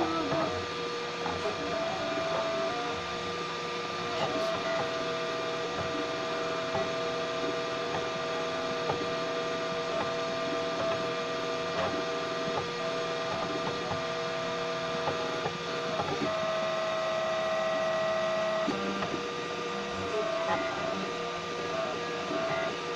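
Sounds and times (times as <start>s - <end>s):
stepper motors whining: 0.0s - 22.9s.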